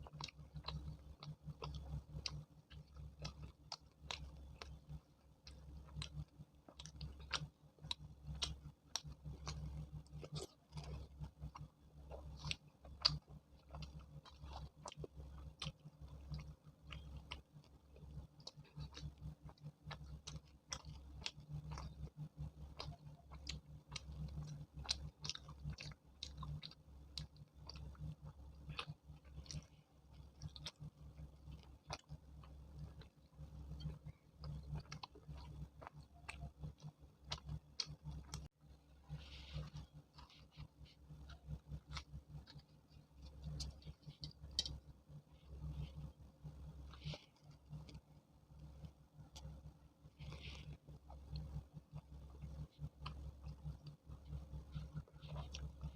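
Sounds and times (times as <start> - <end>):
wet chewing mouth clicks: 0.0 - 55.9.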